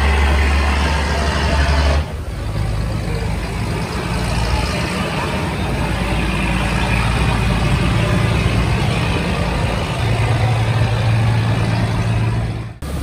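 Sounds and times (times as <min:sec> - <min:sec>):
boat engine humming: 0:00.0 - 0:13.0
propeller wash churning: 0:00.0 - 0:13.0.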